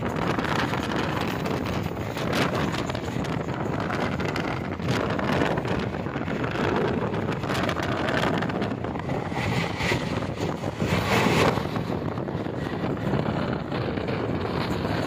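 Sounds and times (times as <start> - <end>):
train rumbling on rails: 0.0 - 15.0
wind buffeting microphone: 0.0 - 15.0.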